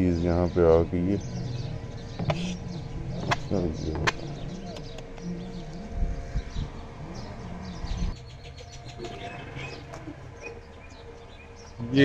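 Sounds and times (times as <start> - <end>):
birds chirping: 0.0 - 12.0
low wavering hum: 0.0 - 12.0.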